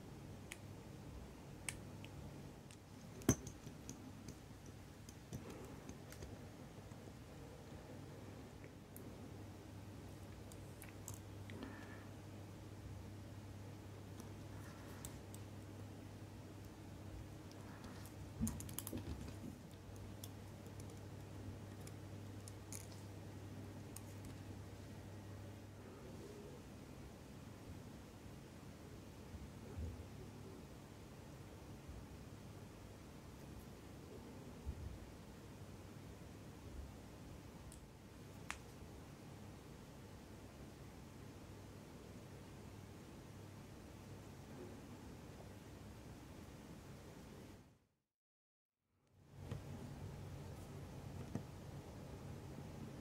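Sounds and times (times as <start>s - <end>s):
steady low hum: 0.0s - 47.8s.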